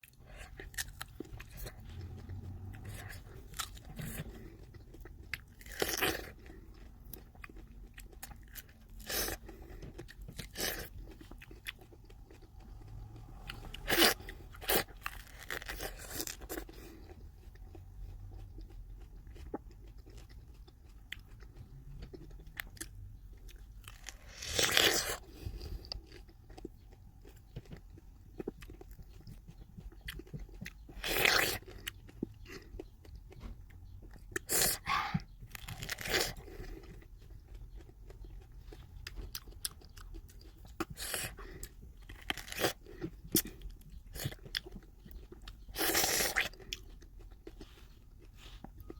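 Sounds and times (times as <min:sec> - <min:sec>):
person chewing fruit: 0:00.0 - 0:48.9.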